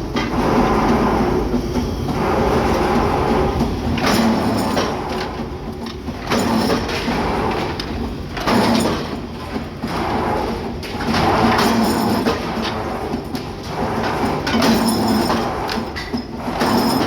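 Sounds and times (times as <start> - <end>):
factory machinery rumbling and clattering: 0.0 - 17.0.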